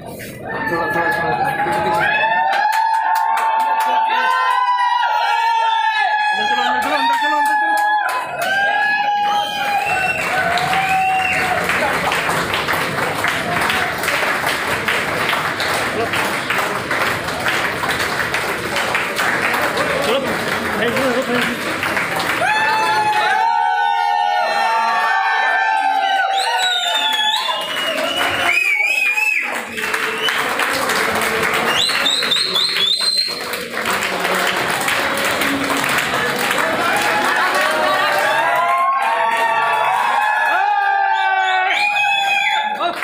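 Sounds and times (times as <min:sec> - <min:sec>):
crowd clapping: 0:00.2 - 0:43.0.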